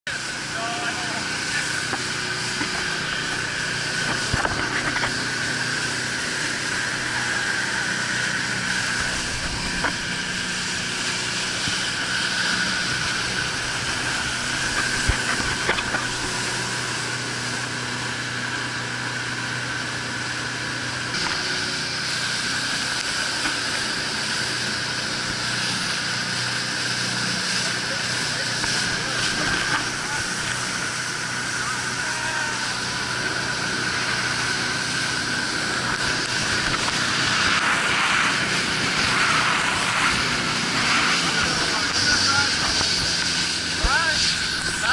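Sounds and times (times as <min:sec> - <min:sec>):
boat engine drone and whine: 0:00.0 - 0:44.9
rushing wind and water: 0:00.1 - 0:44.9.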